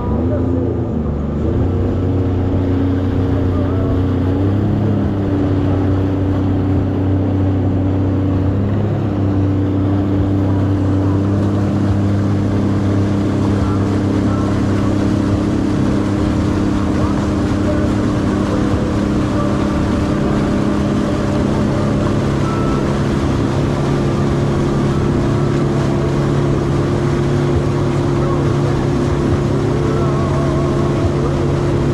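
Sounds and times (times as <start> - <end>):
jet ski engine running: 0.0 - 31.9.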